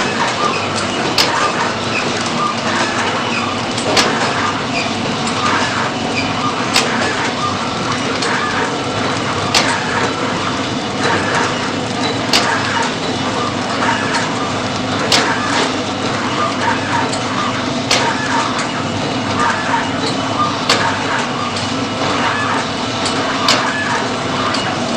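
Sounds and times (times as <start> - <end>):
packaging machine running: 0.0 - 24.9.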